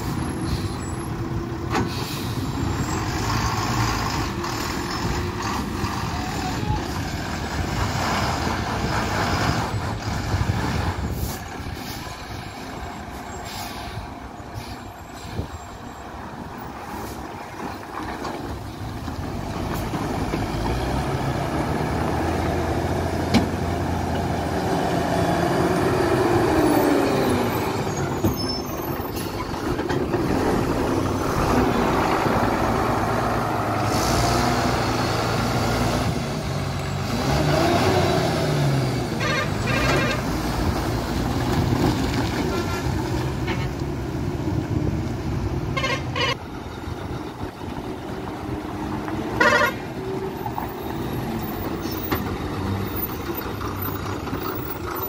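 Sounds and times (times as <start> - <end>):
lorry diesel engines: 0.0 - 55.0.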